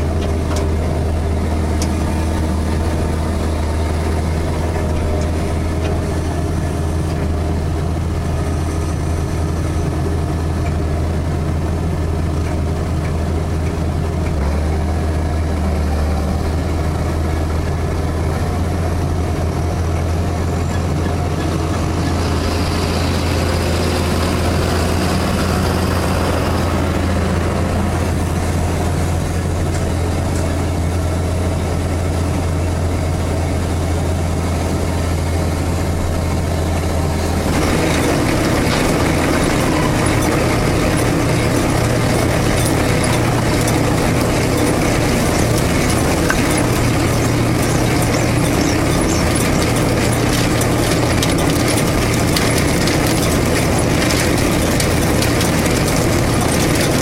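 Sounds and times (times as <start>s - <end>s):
harvester machinery noise: 0.0s - 57.0s
heavy diesel tractor drone: 0.0s - 57.0s
higher-pitched tractor engine: 0.0s - 57.0s.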